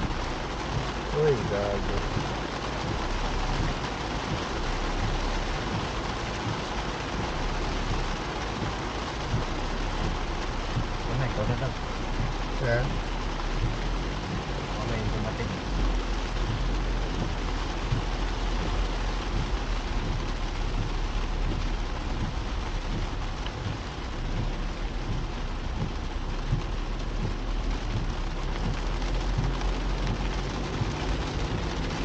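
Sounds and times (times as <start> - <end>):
low rumble: 0.0 - 32.0
rain falling on a car: 0.0 - 32.0.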